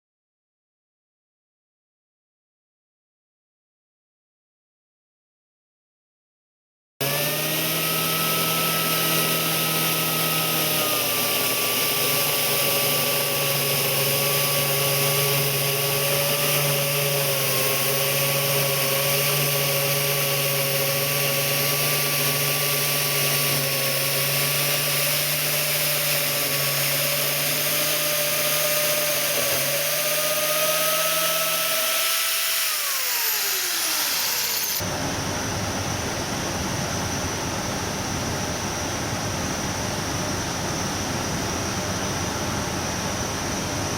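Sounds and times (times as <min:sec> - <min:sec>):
machine whining hum: 0:07.0 - 0:43.9.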